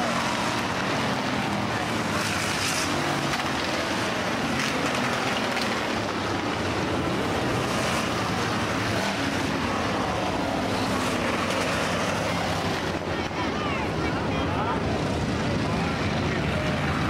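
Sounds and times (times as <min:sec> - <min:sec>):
race car engines running: 0:00.0 - 0:17.0.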